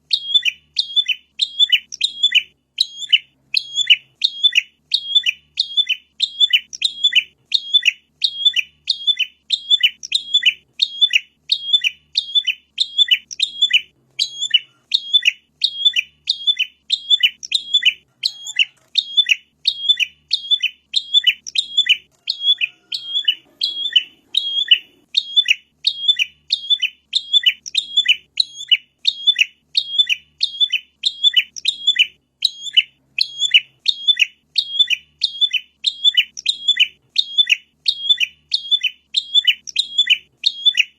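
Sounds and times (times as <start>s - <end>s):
bird chirping rapidly: 0.0s - 40.9s.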